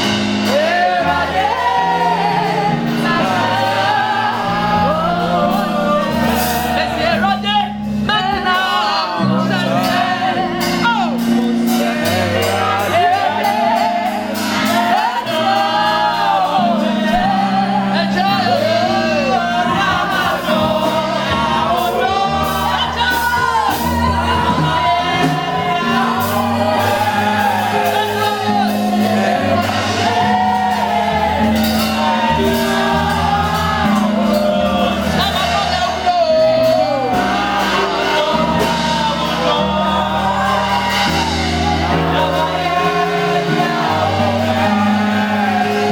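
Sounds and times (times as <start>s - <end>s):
band with steady bass line: 0.0s - 45.9s
voices singing together: 0.0s - 45.9s.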